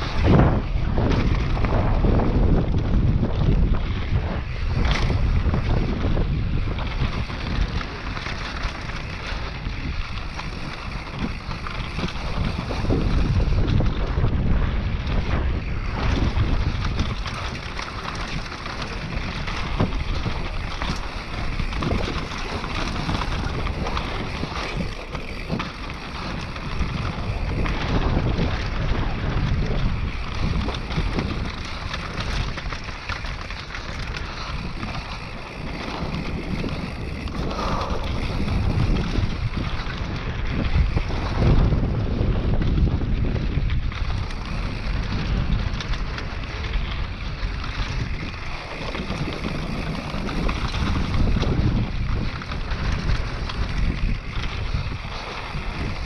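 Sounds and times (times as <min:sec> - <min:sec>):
bike knocking and rattling: 0:00.0 - 0:56.0
wind buffeting microphone: 0:00.0 - 0:56.0.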